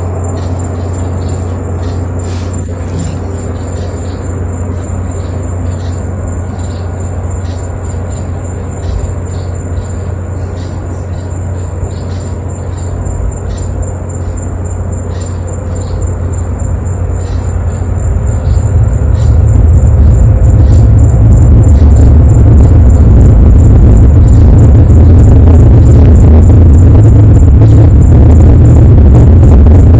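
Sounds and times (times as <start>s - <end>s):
distant rocket launch rumble: 0.0s - 29.9s.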